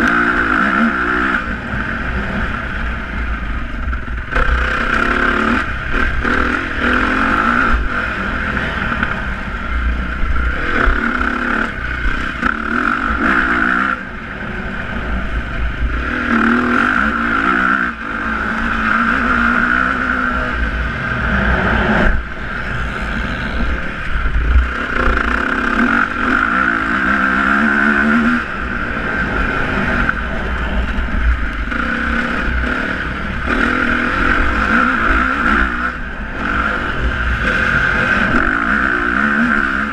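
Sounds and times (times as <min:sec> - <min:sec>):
motocross bike engines revving: 0:00.0 - 0:39.9
steady low rumble: 0:00.0 - 0:39.9.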